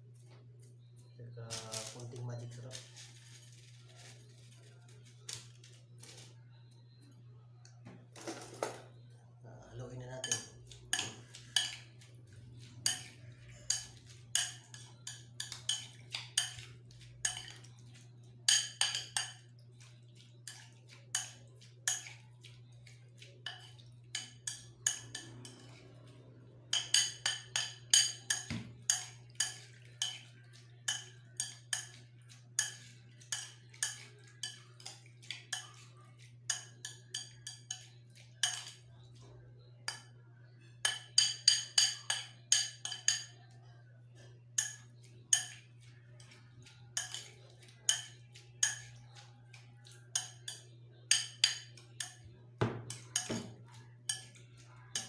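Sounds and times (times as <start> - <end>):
spoon clinking against ceramic bowl: 9.8 - 55.0.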